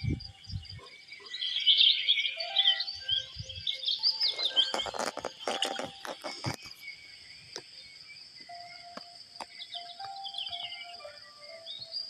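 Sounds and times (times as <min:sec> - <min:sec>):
birds chirping: 0:00.0 - 0:12.0
insect trill: 0:00.0 - 0:12.0.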